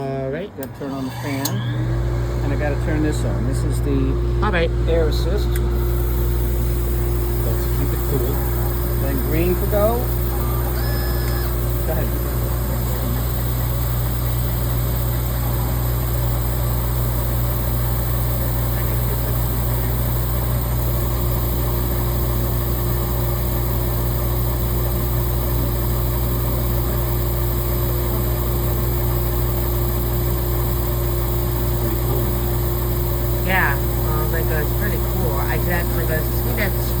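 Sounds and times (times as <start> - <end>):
machine fan drone: 0.0 - 37.0.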